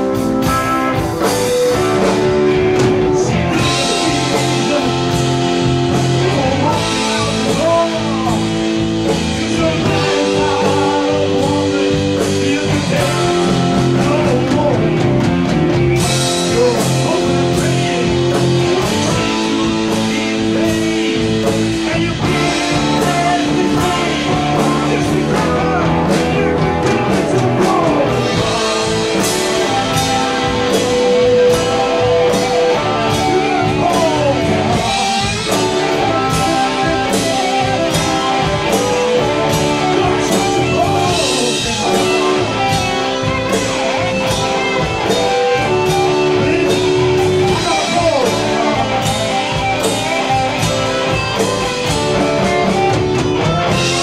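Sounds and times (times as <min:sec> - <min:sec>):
blues-rock band playing: 0:00.0 - 0:54.0
man singing: 0:01.2 - 0:54.0.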